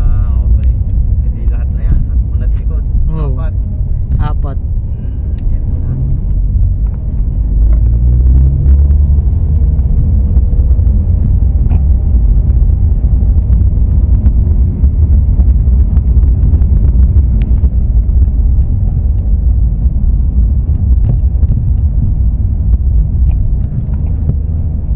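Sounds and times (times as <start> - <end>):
car engine rumble: 0.0 - 24.9.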